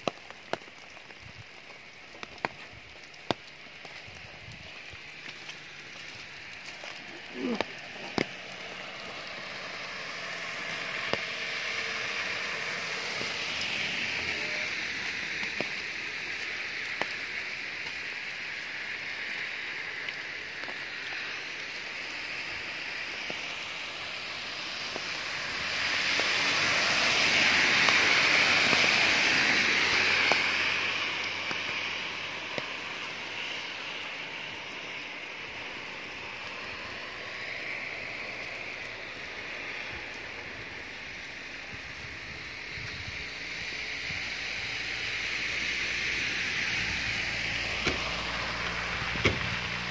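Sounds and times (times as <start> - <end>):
car road and wind noise: 0.0 - 49.9.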